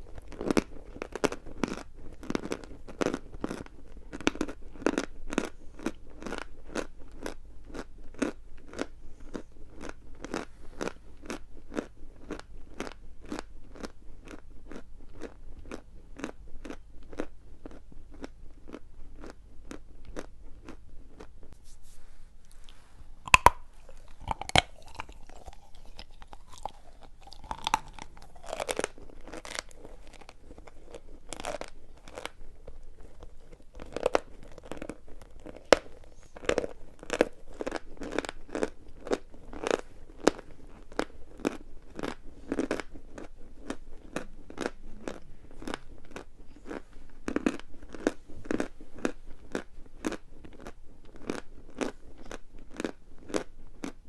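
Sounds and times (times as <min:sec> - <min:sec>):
chalk crunching being chewed: 0:00.0 - 0:21.7, 0:22.5 - 0:54.0.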